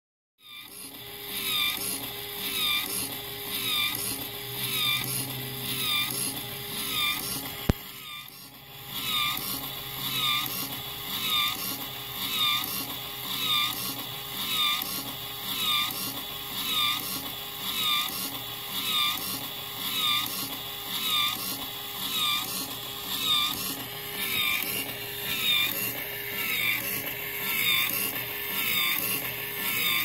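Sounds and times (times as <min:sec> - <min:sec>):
test rig mechanical strokes: 0:00.5 - 0:30.0.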